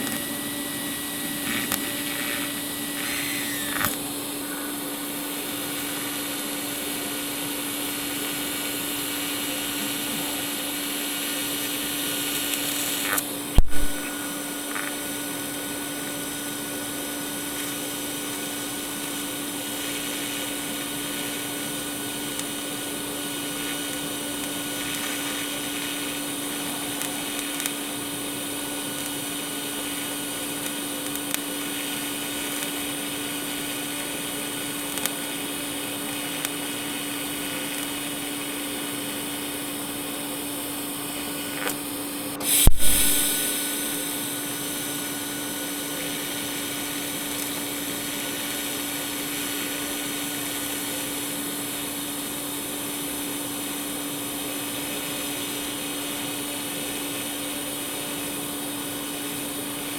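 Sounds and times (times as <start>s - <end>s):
arc welding hiss: 0.0s - 59.9s.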